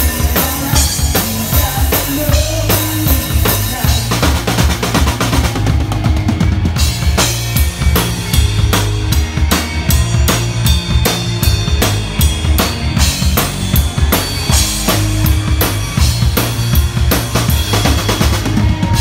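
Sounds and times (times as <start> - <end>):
bass line: 0.0 - 19.0.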